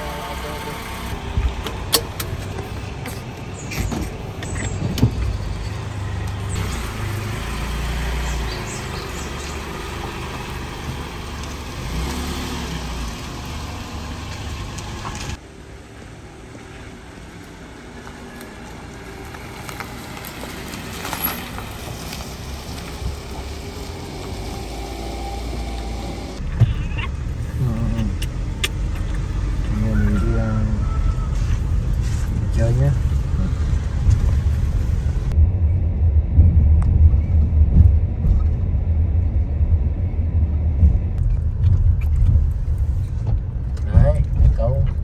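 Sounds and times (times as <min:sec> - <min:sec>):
car engine low rumble: 0:00.0 - 0:45.0.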